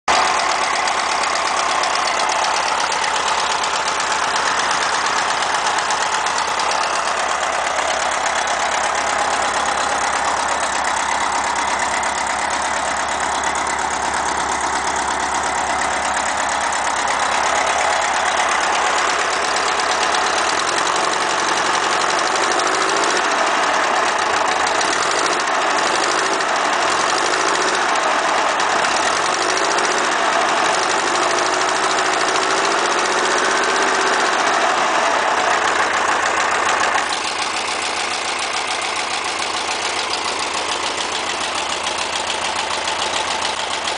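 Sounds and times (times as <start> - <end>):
car engine running: 0.1 - 43.9
engine tapping: 0.1 - 43.9.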